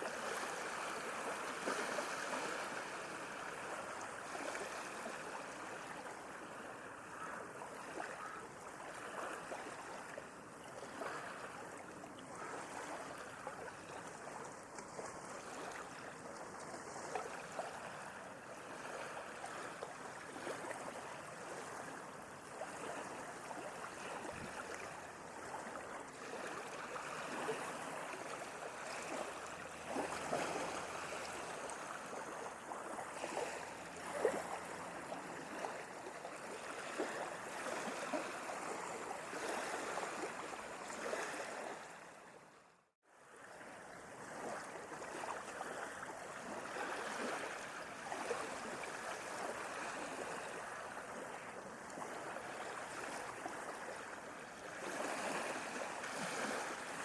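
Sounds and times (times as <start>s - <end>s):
gentle sea waves lapping: 0.0s - 57.0s.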